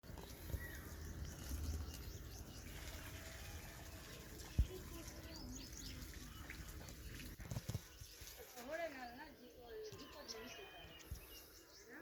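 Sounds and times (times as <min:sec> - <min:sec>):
bird chicks cheeping: 0:00.1 - 0:08.3, 0:09.7 - 0:12.0.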